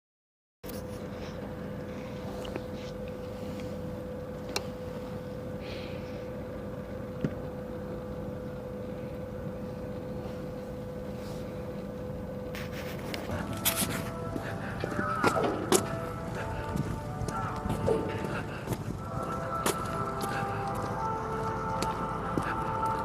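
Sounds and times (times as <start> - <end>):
mechanical hum: 0.6 - 23.0.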